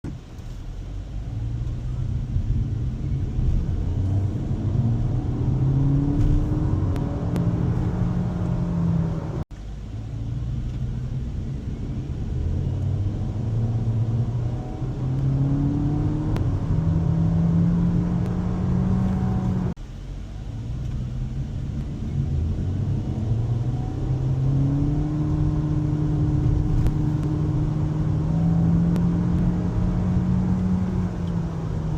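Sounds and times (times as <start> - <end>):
car engine accelerating: 0.1 - 19.8, 20.5 - 31.9.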